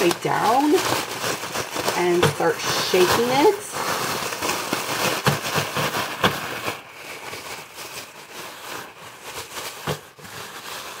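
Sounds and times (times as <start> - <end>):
cereal rattling in bag: 0.0 - 11.0
plastic bag crinkling: 0.0 - 11.0.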